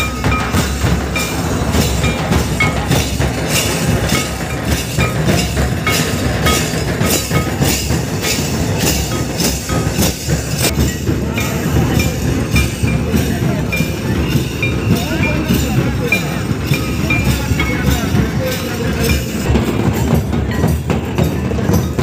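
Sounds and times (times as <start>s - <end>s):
drums beating: 0.0s - 22.0s
heavy low rumble: 0.0s - 22.0s.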